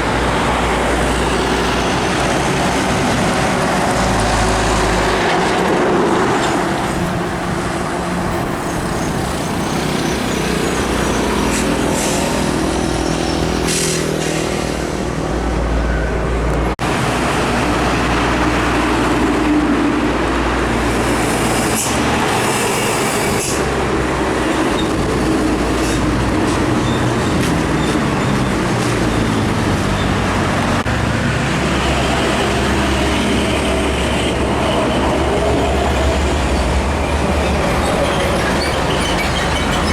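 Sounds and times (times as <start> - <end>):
heavy trucks passing: 0.0 - 39.9.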